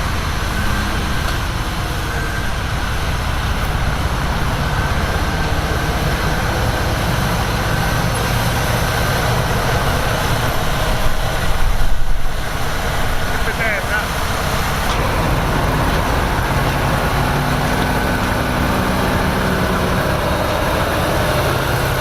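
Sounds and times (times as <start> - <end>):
heavy diesel machinery drone: 0.0 - 22.0.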